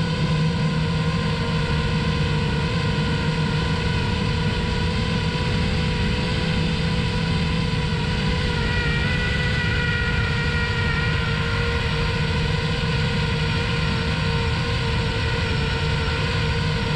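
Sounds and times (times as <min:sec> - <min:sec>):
drone propellers buzzing: 0:00.0 - 0:16.9.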